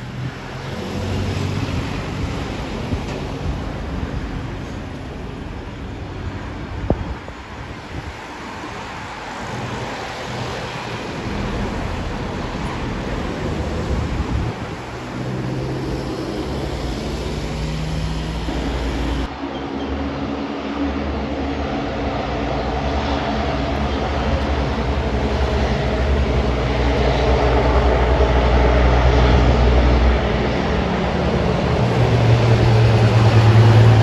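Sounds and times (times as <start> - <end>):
aircraft engine hum: 0.0 - 34.0
steady outdoor rumble: 0.0 - 34.0
wind noise on microphone: 0.0 - 34.0.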